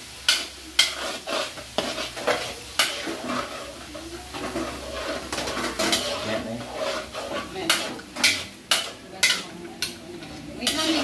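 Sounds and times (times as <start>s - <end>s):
sauce sizzling: 0.0s - 11.0s
spoon knocking and scraping wok: 0.2s - 11.0s.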